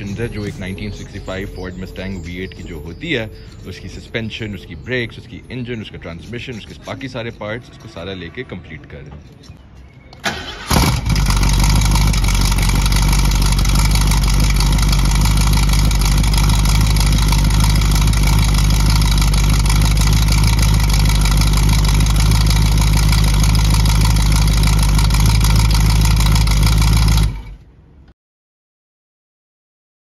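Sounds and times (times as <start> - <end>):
car engine idling: 0.0 - 7.3, 10.2 - 28.0.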